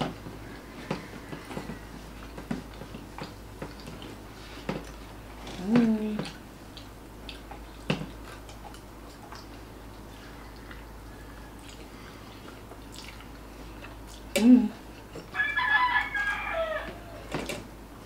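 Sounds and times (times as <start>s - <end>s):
soft chewing: 0.4s - 17.6s.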